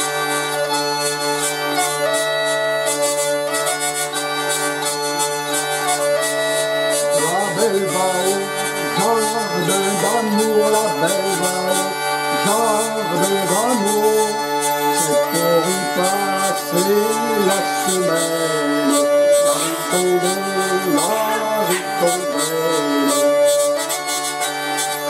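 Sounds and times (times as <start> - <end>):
bagpipe tune over drones: 0.0 - 25.0.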